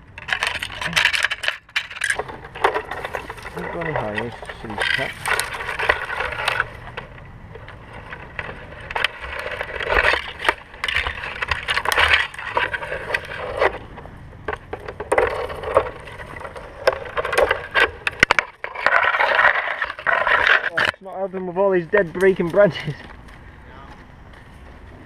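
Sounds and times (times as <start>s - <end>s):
rustling and scraping of bark: 0.0s - 25.0s.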